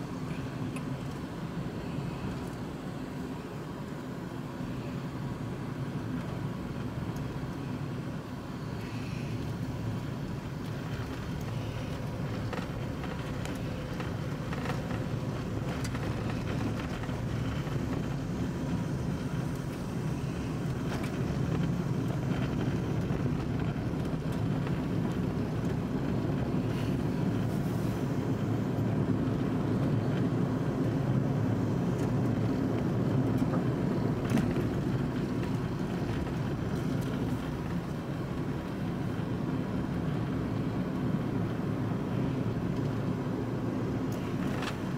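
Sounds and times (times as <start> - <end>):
tyre and road noise: 0.0 - 44.9
light ticks from road surface: 0.3 - 4.1, 4.8 - 44.9.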